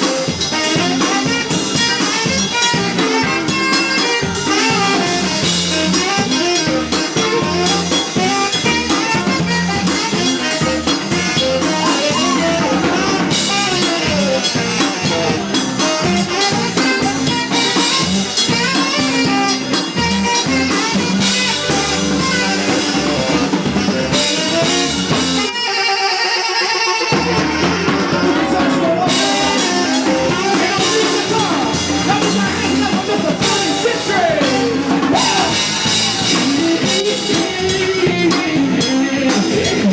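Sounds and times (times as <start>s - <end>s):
live blues band playing: 0.0s - 39.9s.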